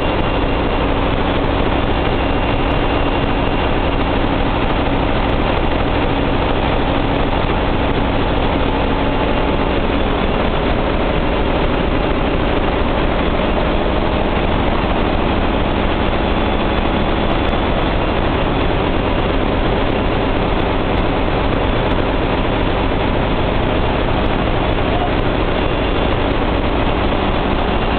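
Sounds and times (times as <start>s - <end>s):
engine-room machinery drone: 0.0s - 27.9s.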